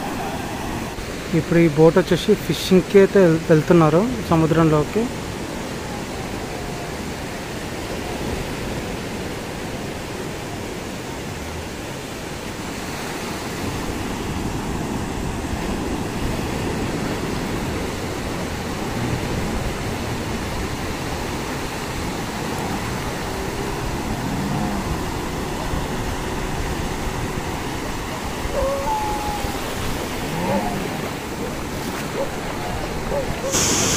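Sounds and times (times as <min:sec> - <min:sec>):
waves breaking on beach: 0:00.0 - 0:33.9.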